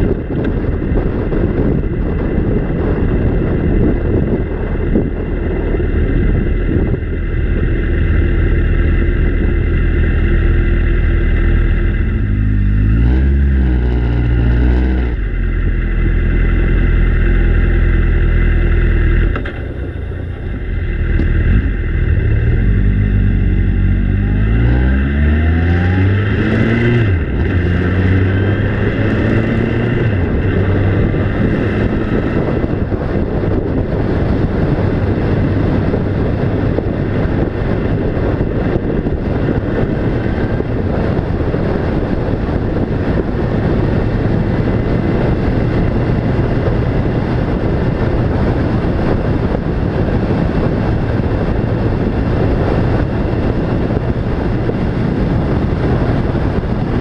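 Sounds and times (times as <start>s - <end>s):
steady rushing noise: 0.0s - 57.0s
vehicle engine changing gears: 0.0s - 57.0s.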